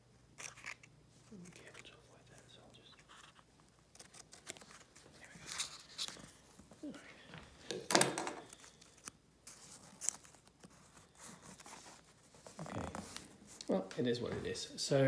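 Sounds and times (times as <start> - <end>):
paper pages rustling: 0.4 - 6.8, 8.0 - 13.7.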